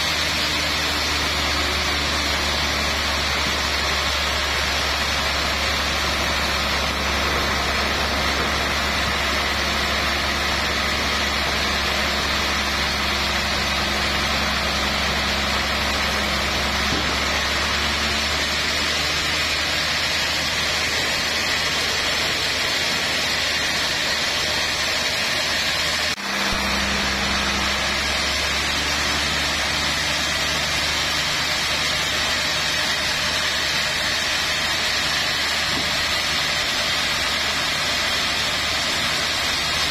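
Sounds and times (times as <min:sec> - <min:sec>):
motor humming low: 0:00.0 - 0:39.9
saw blade whirring: 0:00.0 - 0:39.9.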